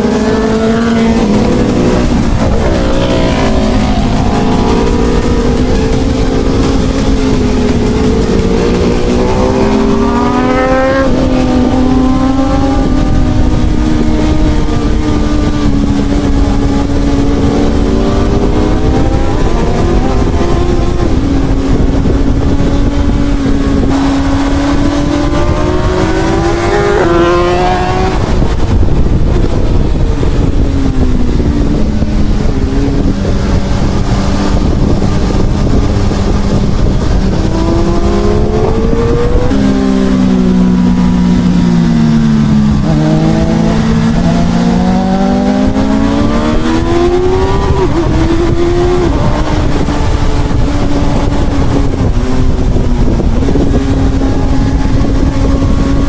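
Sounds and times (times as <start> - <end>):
motorcycle engine accelerating: 0.0 - 56.0
wind rush: 0.0 - 56.0.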